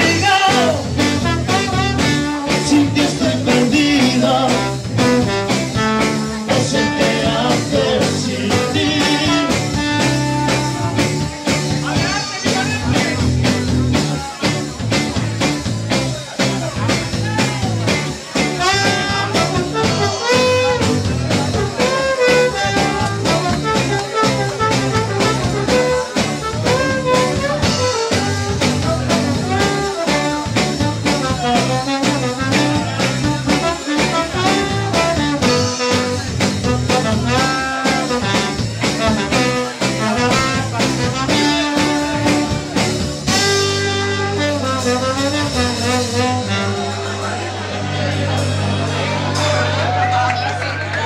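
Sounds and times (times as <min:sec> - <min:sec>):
trombone lead: 0:00.0 - 0:14.0, 0:16.4 - 0:47.8, 0:49.2 - 0:50.0
live band playing: 0:00.0 - 0:51.0.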